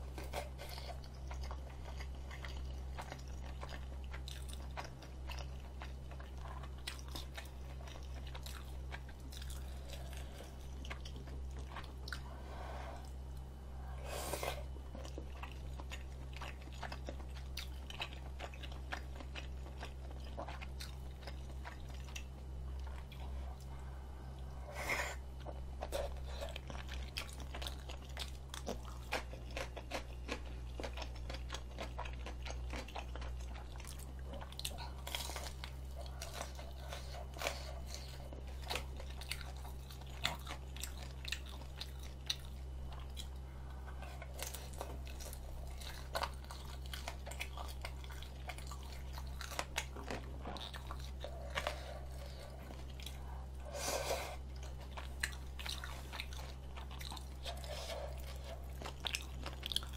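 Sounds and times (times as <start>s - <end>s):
chewing rice cakes: 0.0s - 59.9s
low hum: 0.0s - 59.9s.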